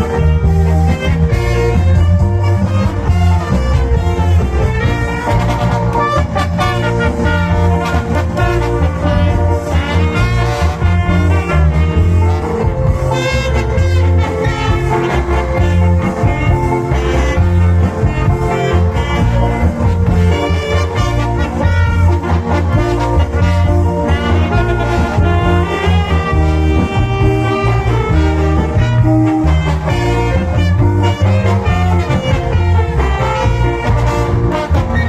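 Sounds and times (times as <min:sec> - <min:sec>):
cha-cha dance music: 0:00.0 - 0:35.0.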